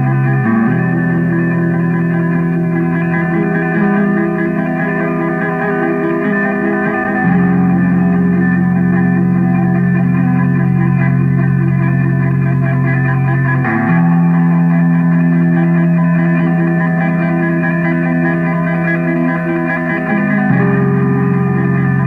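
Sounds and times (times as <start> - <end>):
droning guitar chords: 0.0 - 22.0.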